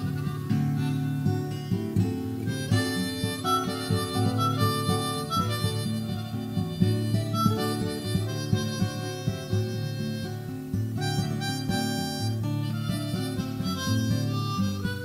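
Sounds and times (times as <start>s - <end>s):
acoustic guitar chords: 0.0s - 15.0s
harmonica solo: 0.0s - 15.0s.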